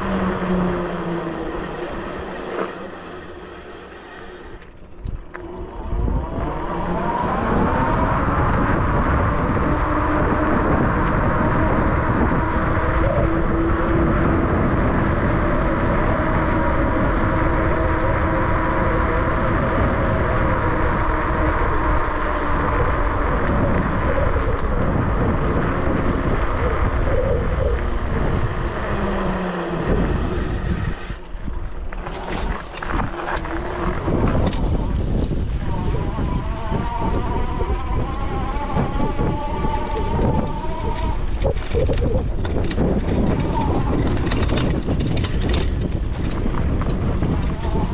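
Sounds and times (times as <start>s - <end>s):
droning motor hum: 0.0s - 47.9s
tyre noise: 0.0s - 47.9s
wind rushing on microphone: 4.4s - 47.9s.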